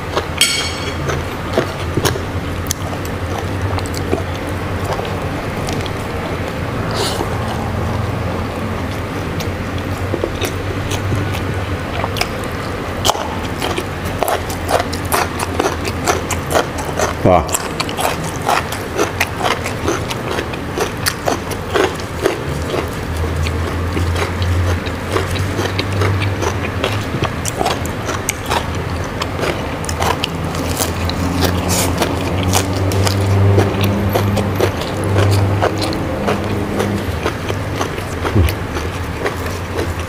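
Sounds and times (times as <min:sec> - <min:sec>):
chewing and crunching food: 0:00.0 - 0:40.0.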